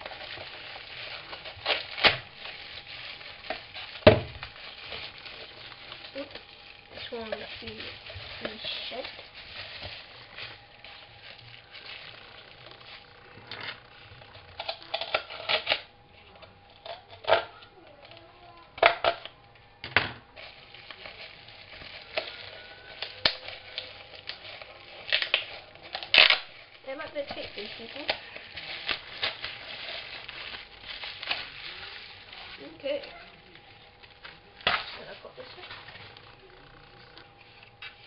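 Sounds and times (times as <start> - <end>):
plastic packaging crinkling: 0.0 - 38.0.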